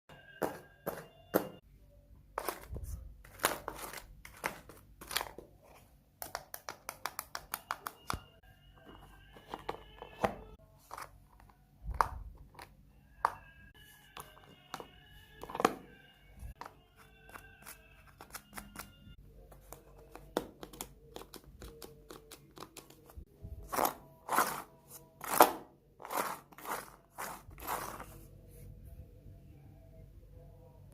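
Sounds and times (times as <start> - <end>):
faint music: 0.1 - 30.9.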